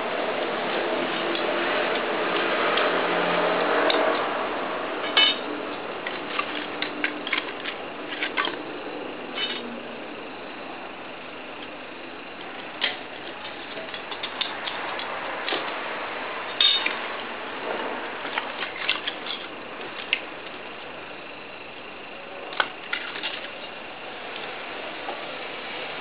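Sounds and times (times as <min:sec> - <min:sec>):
charcoal crackling: 0:00.0 - 0:25.2.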